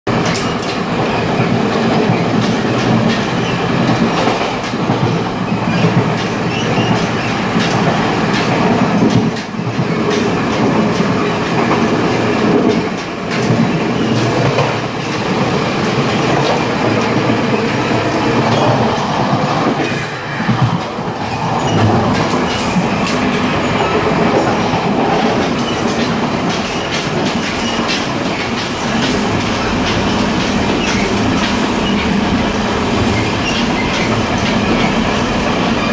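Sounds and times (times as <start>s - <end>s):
train wheels on rails: 0.1s - 35.9s
clanks and rattles of carriage joint: 0.2s - 19.5s, 21.6s - 32.3s.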